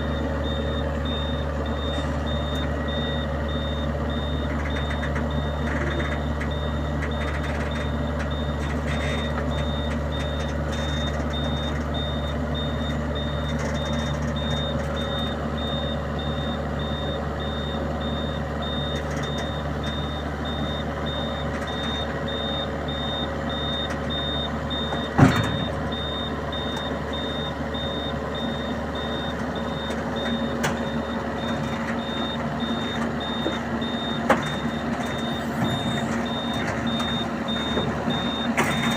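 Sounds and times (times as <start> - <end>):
heavy vehicle engine running: 0.0 - 38.9
warning alarm beeping: 0.0 - 38.9.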